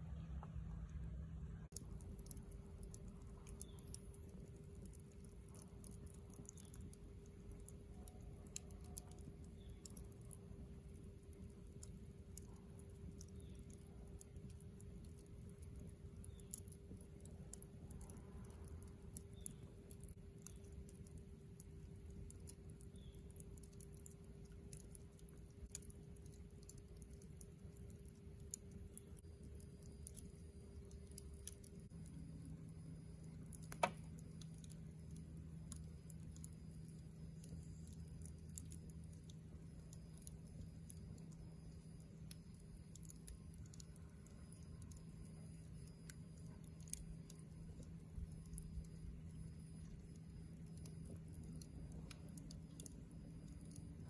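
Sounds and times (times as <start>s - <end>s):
campfire crackling and popping: 1.6s - 54.0s.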